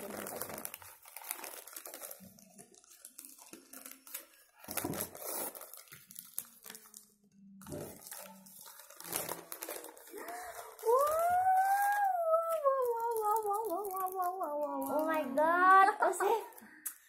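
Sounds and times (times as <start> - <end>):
paper crinkling and rustling: 0.0 - 16.5.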